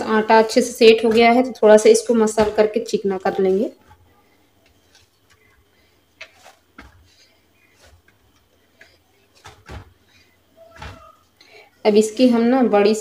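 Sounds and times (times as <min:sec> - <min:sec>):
dough kneaded by hand: 0:00.0 - 0:11.4.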